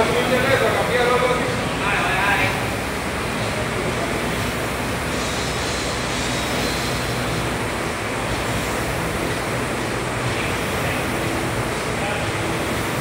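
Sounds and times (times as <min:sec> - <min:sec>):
rowing machine flywheel whooshing: 0:00.0 - 0:13.0.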